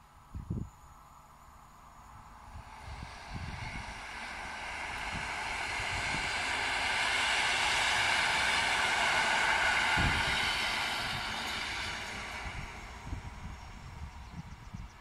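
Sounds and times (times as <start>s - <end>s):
train wheels on rails: 1.8s - 15.0s.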